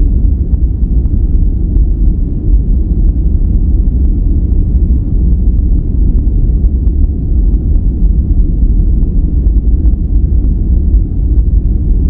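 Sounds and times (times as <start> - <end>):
deep rumbling noise: 0.0 - 12.0.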